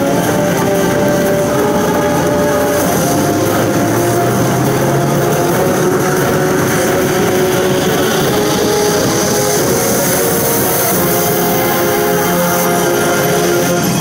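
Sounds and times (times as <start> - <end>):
pachinko electronic drone: 0.0 - 14.0.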